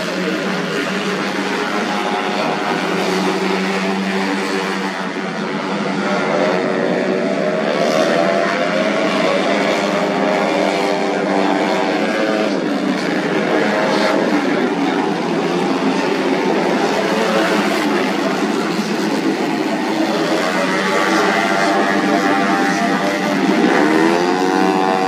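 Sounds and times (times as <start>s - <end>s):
scooter engines revving: 0.0s - 25.0s.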